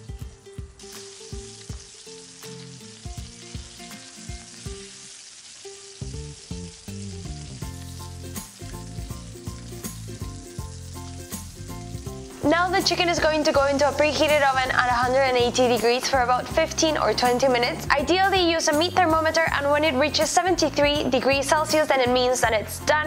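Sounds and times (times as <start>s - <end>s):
chicken sizzling in a pan: 0.0s - 23.0s.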